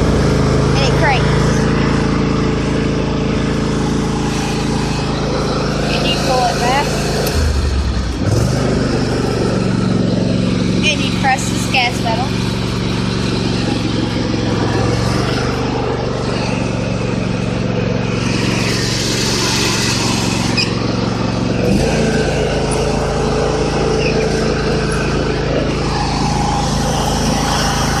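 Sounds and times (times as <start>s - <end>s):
riding lawn mower engine running: 0.0s - 28.0s.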